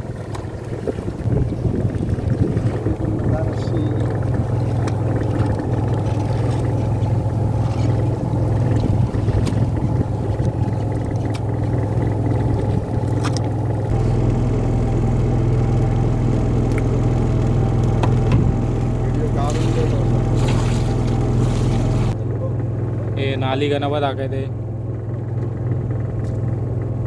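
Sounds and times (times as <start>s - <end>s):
boat engine running: 0.0s - 27.0s
deep rumble: 0.0s - 27.0s.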